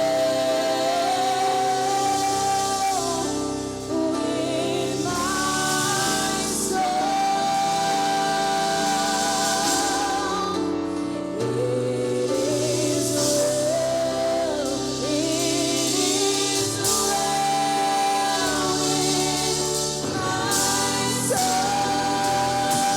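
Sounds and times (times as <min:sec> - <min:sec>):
group singing gospel song: 0:00.0 - 0:22.9
instrumental backing: 0:00.0 - 0:22.9.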